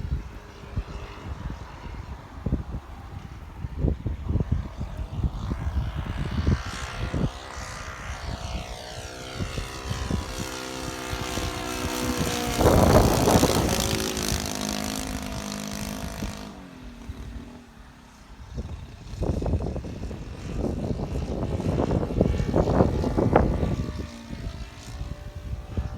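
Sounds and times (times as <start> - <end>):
model plane engine droning: 0.0 - 25.9
wind buffeting microphone: 0.0 - 25.9.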